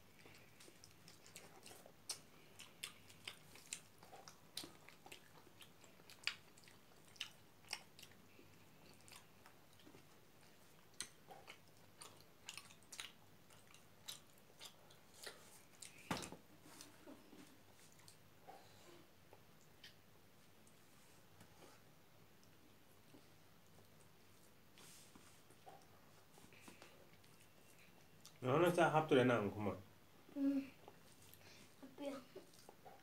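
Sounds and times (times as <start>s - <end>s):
people chewing food: 0.0s - 28.4s, 30.2s - 33.0s.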